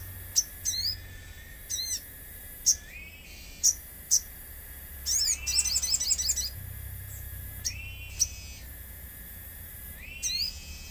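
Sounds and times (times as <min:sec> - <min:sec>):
bird calling chips and trill: 0:00.0 - 0:04.4, 0:05.0 - 0:08.8, 0:09.9 - 0:10.9
faint background hum: 0:00.0 - 0:10.9.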